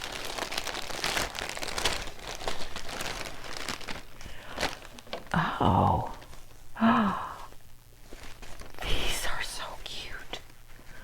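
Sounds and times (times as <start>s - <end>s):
packaging crinkling and rustling: 0.0s - 6.8s, 7.5s - 11.0s.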